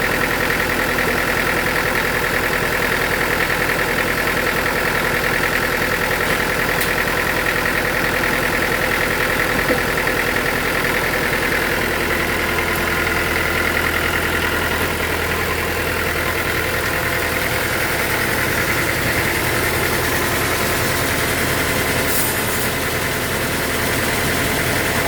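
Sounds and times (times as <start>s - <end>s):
sawmill machinery hum: 0.0s - 25.0s.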